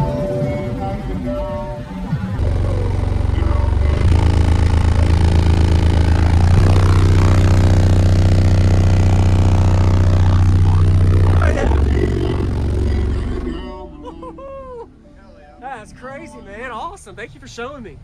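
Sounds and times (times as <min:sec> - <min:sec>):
subwoofers playing deep bass: 0:00.0 - 0:15.0.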